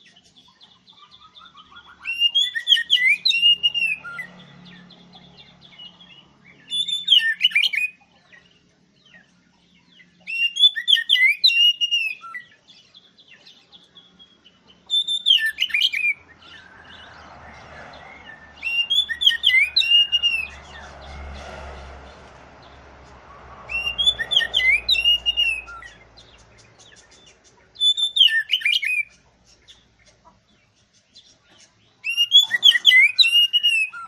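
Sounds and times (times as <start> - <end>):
magpie-robin singing whistles and trills: 0.0 - 17.2, 18.0 - 20.9, 23.7 - 30.2, 31.1 - 34.0.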